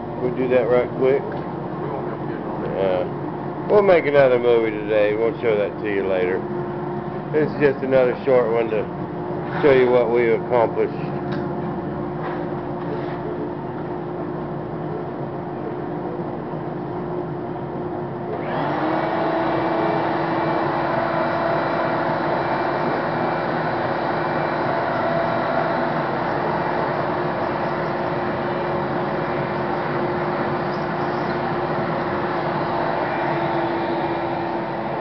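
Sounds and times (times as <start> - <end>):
shop vacuum running: 0.0 - 35.0
steady machine hum: 0.0 - 35.0.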